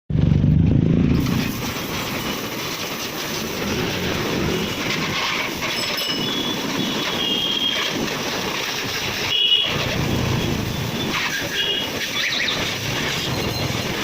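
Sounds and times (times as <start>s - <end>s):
pressure washer running: 1.1s - 14.0s.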